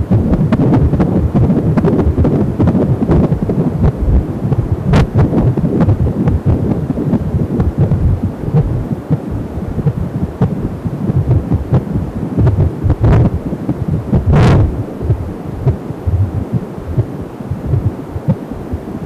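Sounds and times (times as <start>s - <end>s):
fetal heartbeat whoosh-pulse: 0.0s - 19.0s.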